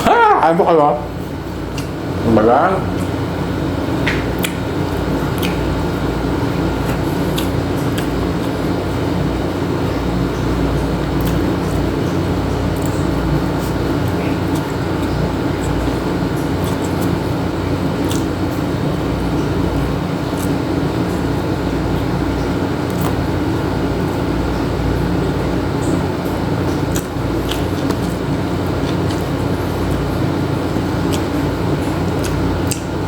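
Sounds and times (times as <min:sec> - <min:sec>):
mechanical drone with low hum: 0:00.0 - 0:33.0.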